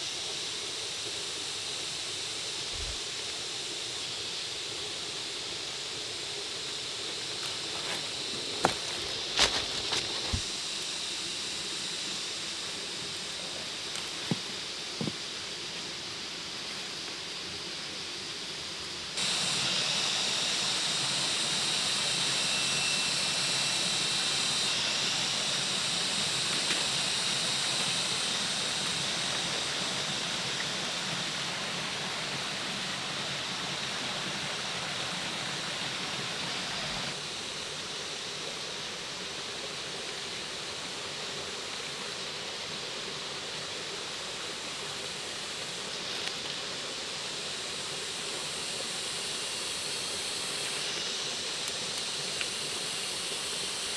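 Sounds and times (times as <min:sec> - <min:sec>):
flowing water rushing: 0:00.0 - 0:53.9.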